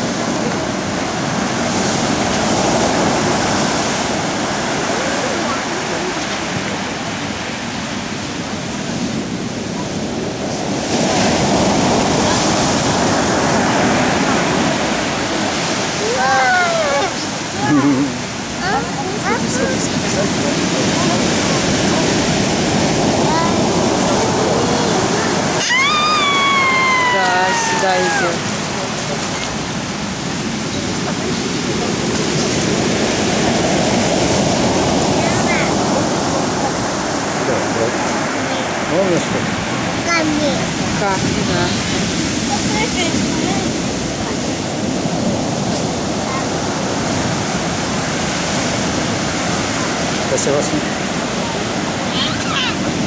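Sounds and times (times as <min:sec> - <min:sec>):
waves breaking on shore: 0:00.0 - 0:53.0.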